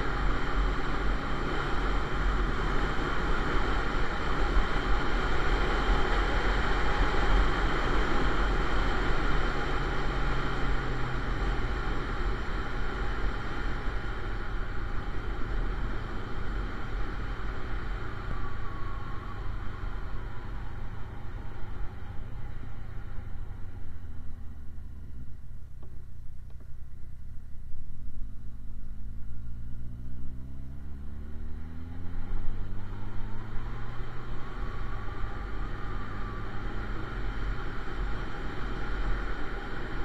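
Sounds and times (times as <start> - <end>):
motorcycle engine cruising: 0.0 - 40.0
road rumble: 0.0 - 40.0
wind: 0.0 - 40.0.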